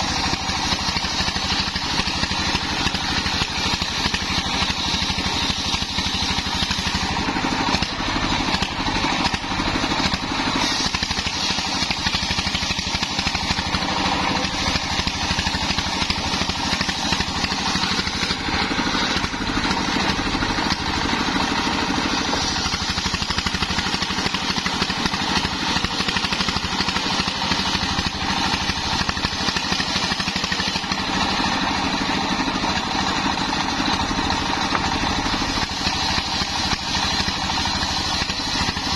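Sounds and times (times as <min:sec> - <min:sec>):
circular saw ripping a log: 0:00.0 - 0:38.9
diesel engine running under load: 0:00.0 - 0:38.9.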